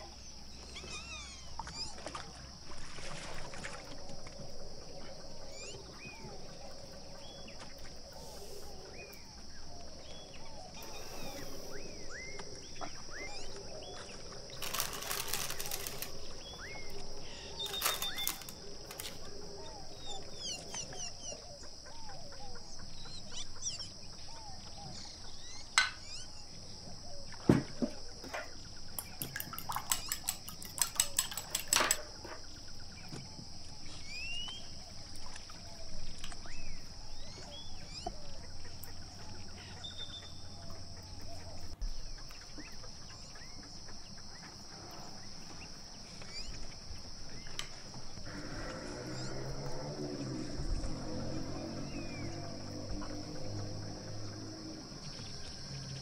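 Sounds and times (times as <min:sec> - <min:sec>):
small birds chirping: 0:00.0 - 0:03.4, 0:04.0 - 0:56.0.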